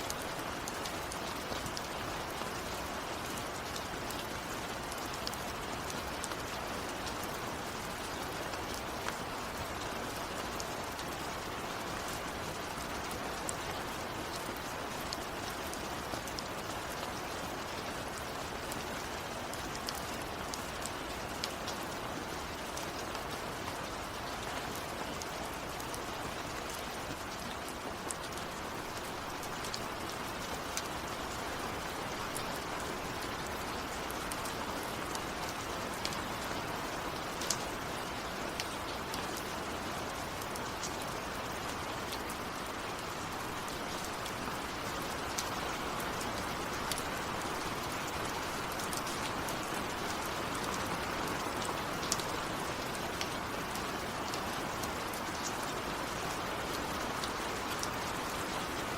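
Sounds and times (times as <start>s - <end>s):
raindrops ticking close by: 0.0s - 58.9s
steady rain falling: 0.0s - 58.9s.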